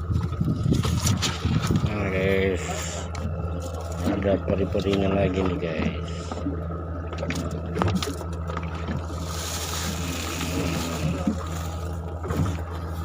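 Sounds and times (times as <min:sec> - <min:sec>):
boat engine humming: 0:00.0 - 0:13.0
water sloshing: 0:00.0 - 0:13.0.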